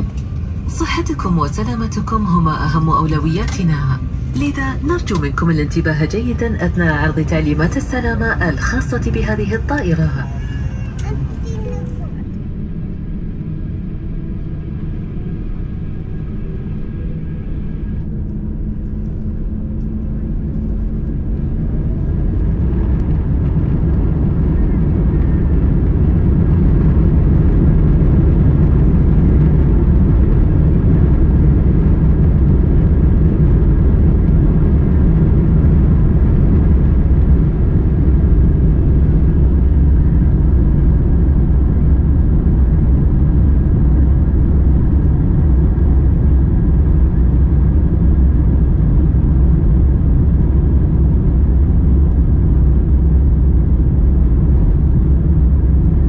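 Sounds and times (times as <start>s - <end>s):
faint high engine whine: 0.0s - 56.0s
jet engine and airflow noise: 0.0s - 56.0s.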